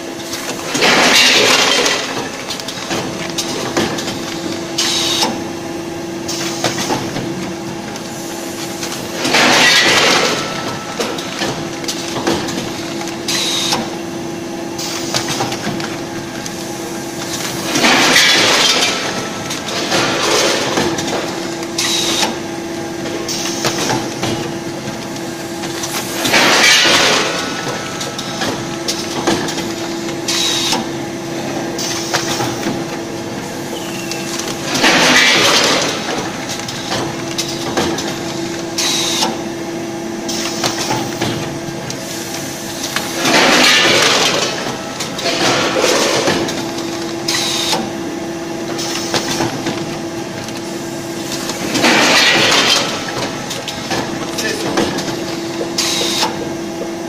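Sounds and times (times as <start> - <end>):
packaging machine humming: 0.0 - 57.0
pneumatic grippers clicking: 0.2 - 5.4, 7.9 - 14.0, 14.8 - 39.4, 40.3 - 47.9, 48.7 - 56.6.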